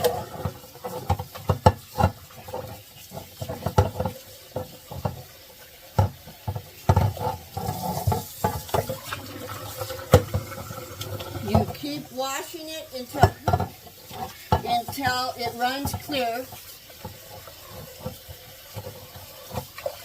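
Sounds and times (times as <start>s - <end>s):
water sloshing in a bowl: 0.0s - 20.0s.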